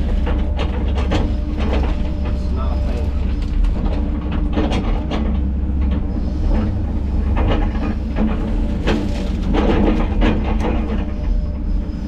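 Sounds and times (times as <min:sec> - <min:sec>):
metal clanks and knocks: 0:00.0 - 0:11.2
excavator diesel engine running: 0:00.0 - 0:12.0.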